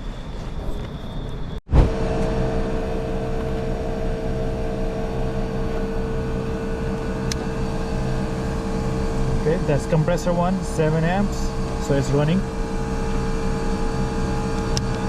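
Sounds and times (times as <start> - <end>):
air conditioner humming with whine: 1.8 - 15.0.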